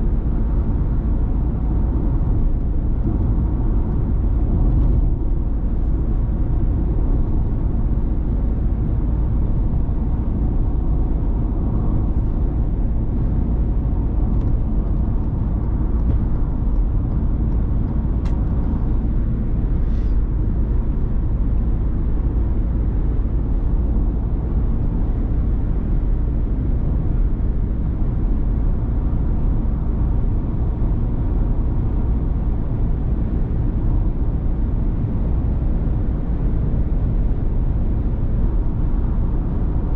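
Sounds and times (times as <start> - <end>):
van engine and road rumble: 0.0 - 39.9.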